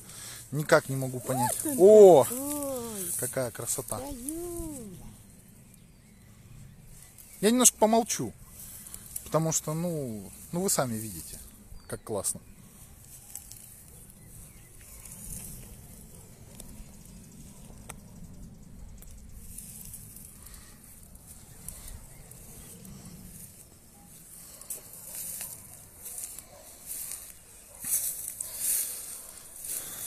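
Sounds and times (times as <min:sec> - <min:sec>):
grass rustling: 0:00.0 - 0:05.5, 0:06.9 - 0:11.6, 0:12.6 - 0:17.9, 0:19.3 - 0:30.0.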